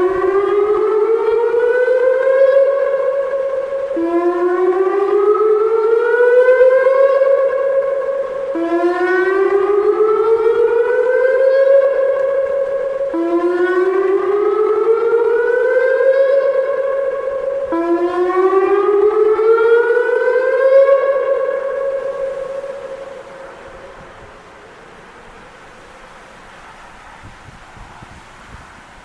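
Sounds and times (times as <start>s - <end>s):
electronic siren whooping: 0.0s - 24.4s.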